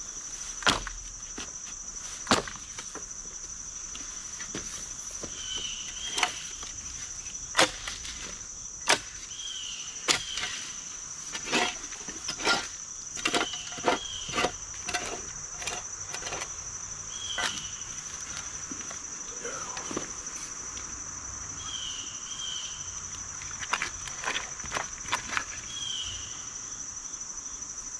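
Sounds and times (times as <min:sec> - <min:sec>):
insects droning: 0:00.0 - 0:27.9.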